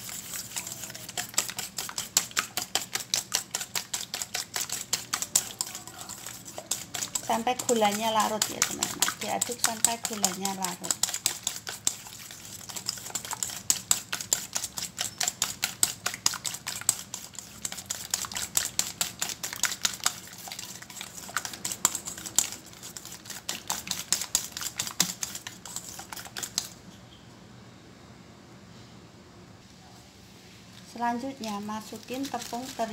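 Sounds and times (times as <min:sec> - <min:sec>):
whisk beating in metal bowl: 0:00.0 - 0:26.7, 0:31.4 - 0:32.9.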